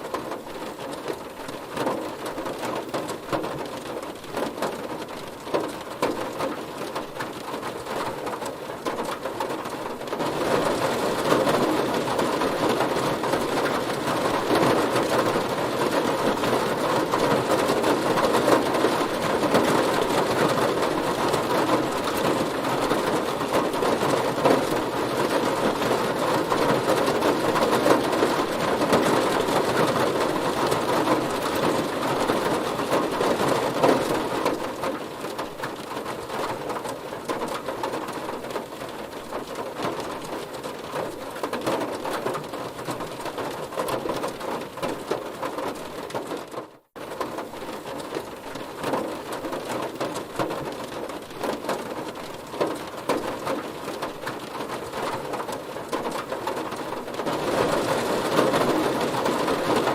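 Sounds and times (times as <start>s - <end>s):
heavy rain on a car: 0.0s - 59.9s.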